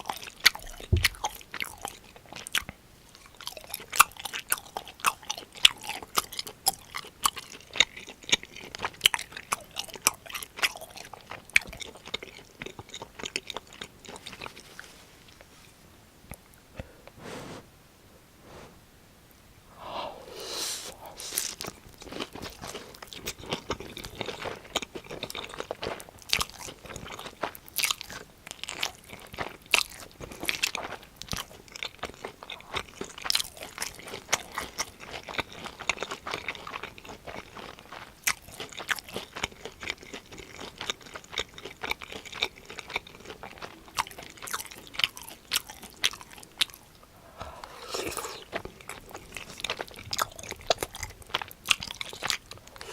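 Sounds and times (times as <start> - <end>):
crunchy chewing: 0.0 - 17.6, 19.8 - 52.9.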